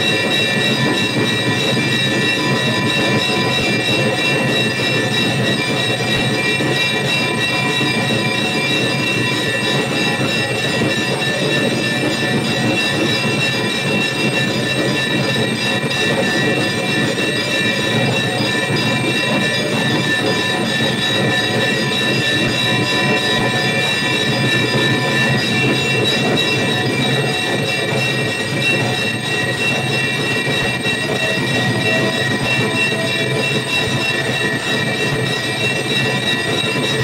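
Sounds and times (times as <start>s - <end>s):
temple bells clanging: 0.0s - 37.0s.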